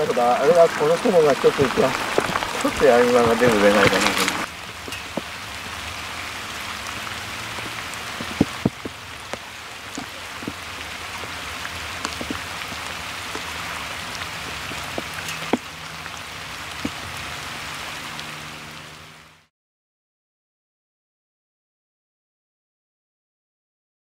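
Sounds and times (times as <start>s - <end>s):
sharp rain taps: 0.0s - 19.4s
rain falling on water: 0.0s - 19.5s.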